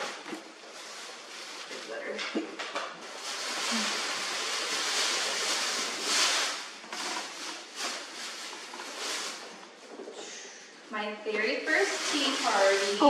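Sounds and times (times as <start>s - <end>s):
tissue paper rustling: 0.0s - 2.2s, 2.9s - 10.2s, 11.5s - 13.0s.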